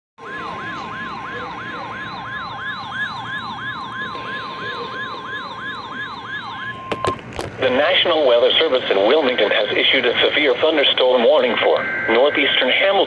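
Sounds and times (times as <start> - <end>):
electronic yelp siren: 0.2 - 13.0
steady warning tone: 0.2 - 13.0.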